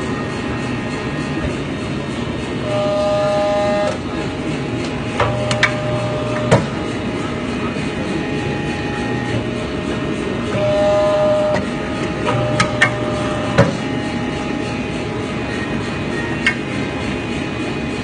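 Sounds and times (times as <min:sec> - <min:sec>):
machinery running: 0:00.0 - 0:18.0
sharp machine clanks: 0:00.0 - 0:18.0.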